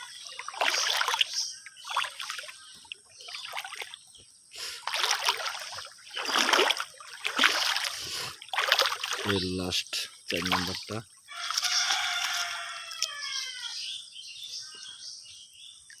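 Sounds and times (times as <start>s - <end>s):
water sloshing from wading: 0.0s - 13.6s.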